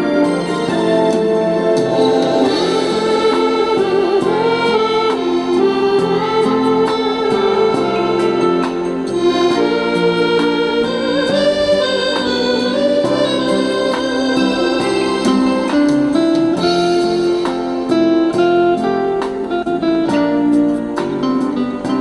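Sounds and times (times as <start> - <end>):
instrumental keyboard music: 0.0 - 22.0.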